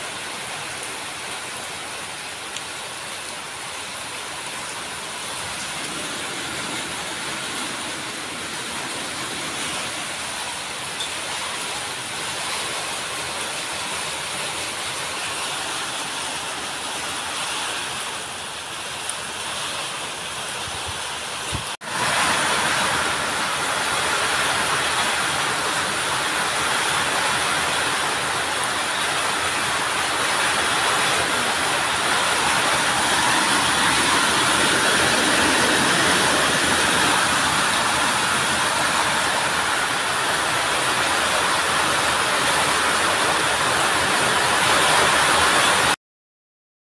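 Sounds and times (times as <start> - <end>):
heavy rain: 0.0 - 46.0.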